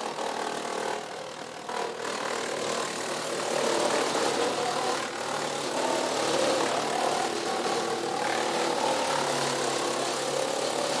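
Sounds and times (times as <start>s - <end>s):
wood chipper grinding log: 0.0s - 11.0s.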